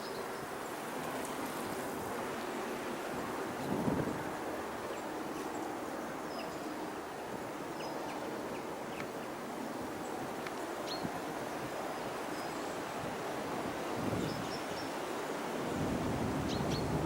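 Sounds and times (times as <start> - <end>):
wind hiss: 0.0 - 17.0.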